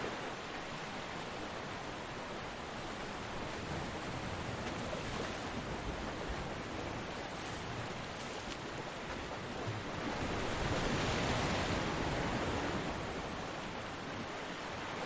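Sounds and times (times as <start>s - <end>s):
ocean surf waves: 0.0s - 15.0s.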